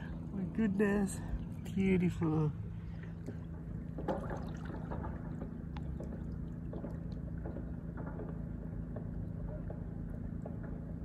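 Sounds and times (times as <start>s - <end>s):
motor humming steadily: 0.0s - 11.0s.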